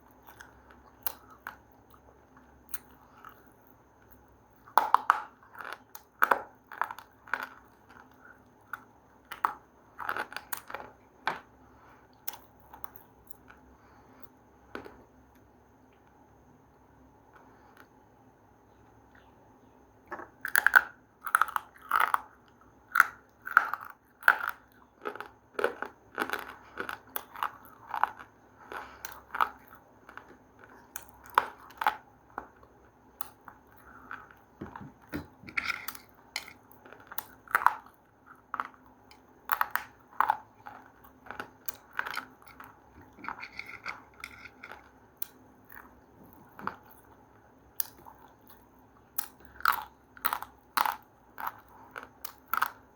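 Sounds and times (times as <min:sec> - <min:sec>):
crunchy food chewing: 0:00.0 - 0:16.1, 0:20.1 - 0:52.9.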